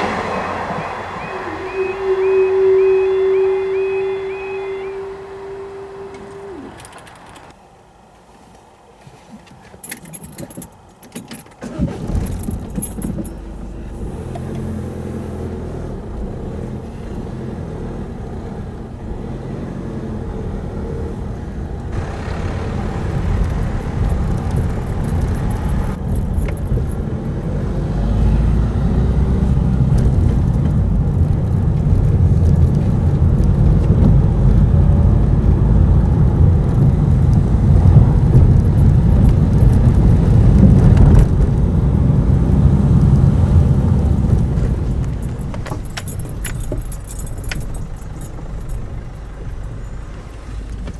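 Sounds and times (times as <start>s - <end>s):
diesel train rumble: 0.0s - 7.6s, 12.0s - 50.9s.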